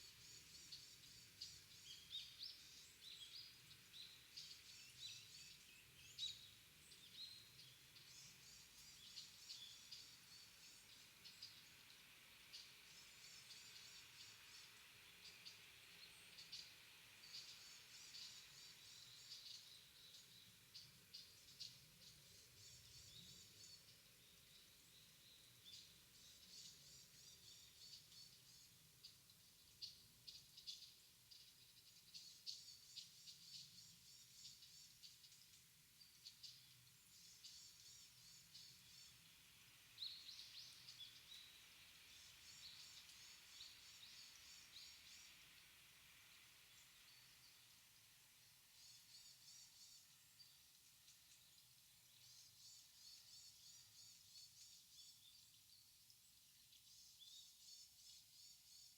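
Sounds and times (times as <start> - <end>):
low steady background hush: 0.0 - 58.9
small birds chirping: 0.0 - 58.9.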